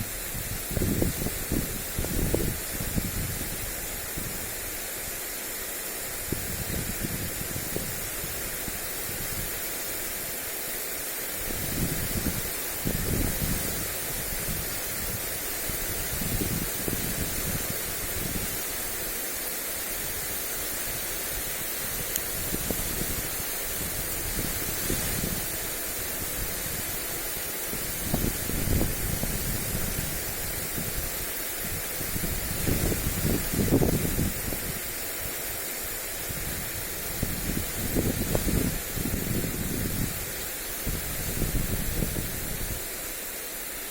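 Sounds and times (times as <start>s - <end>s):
wind buffeting microphone: 0.0s - 4.4s, 6.2s - 9.6s, 11.4s - 18.6s, 20.2s - 35.3s, 36.1s - 42.9s
lawn sprinkler hissing: 0.0s - 43.9s.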